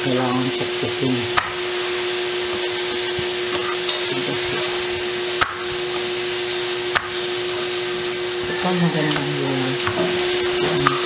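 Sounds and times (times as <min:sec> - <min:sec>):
steady loud hiss: 0:00.0 - 0:11.0.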